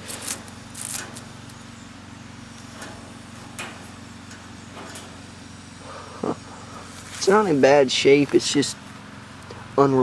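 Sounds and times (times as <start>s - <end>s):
hvac equipment humming: 0.0s - 10.0s.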